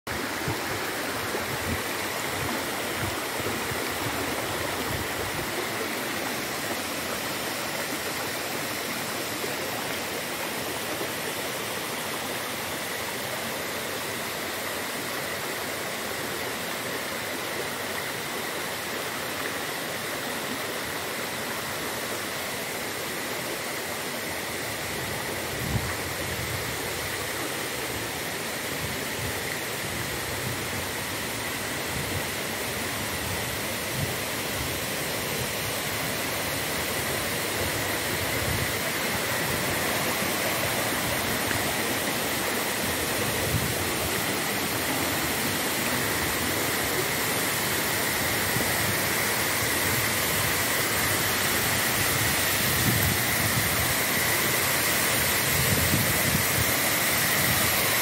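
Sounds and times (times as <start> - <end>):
running water: 0.1 - 58.0.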